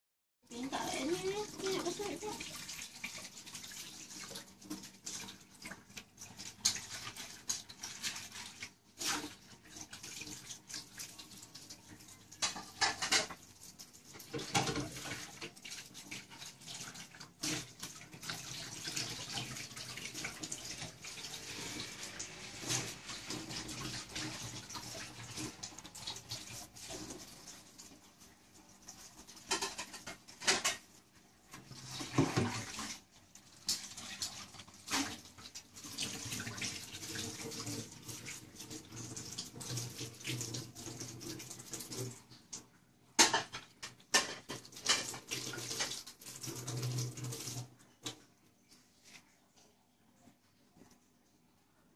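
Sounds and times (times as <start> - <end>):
water splashing in bucket: 0.5 - 28.0, 31.6 - 42.4, 43.2 - 48.2.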